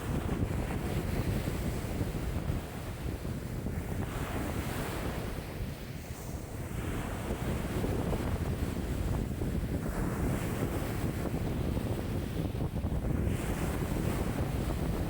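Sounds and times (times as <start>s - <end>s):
lake waves washing in: 0.0s - 15.0s
wind buffeting microphone: 0.0s - 15.0s.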